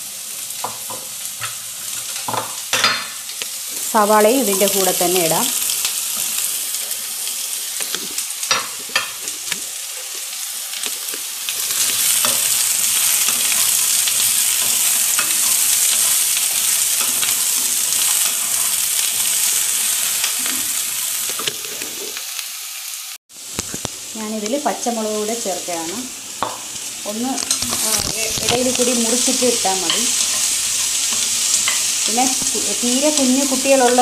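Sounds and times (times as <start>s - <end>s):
vegetables sizzling in fat: 0.0s - 34.0s.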